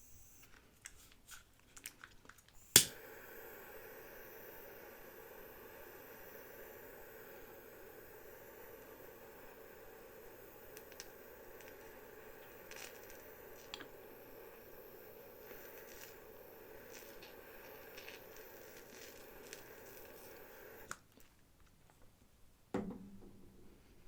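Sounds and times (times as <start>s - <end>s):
steady hiss: 0.0s - 21.2s.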